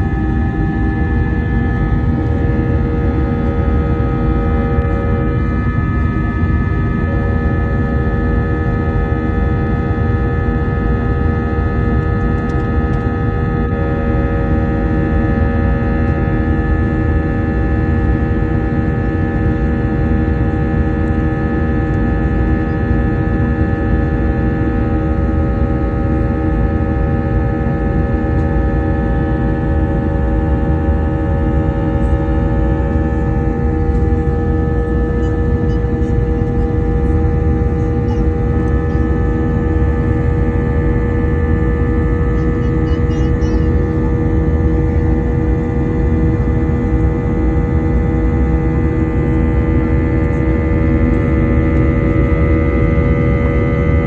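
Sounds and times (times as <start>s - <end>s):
jet engine cabin rumble: 0.0s - 54.0s
multi-tone engine hum: 0.0s - 54.0s.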